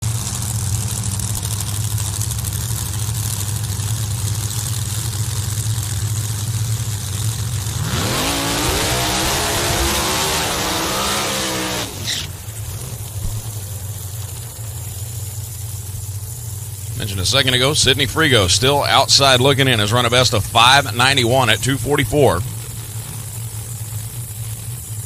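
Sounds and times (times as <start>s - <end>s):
drag car engine idling and revving: 0.0s - 25.0s.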